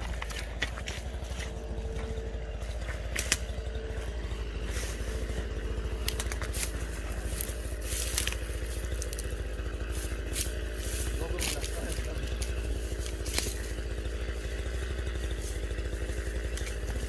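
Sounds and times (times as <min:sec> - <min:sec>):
twigs crackling and snapping: 0:00.0 - 0:17.0.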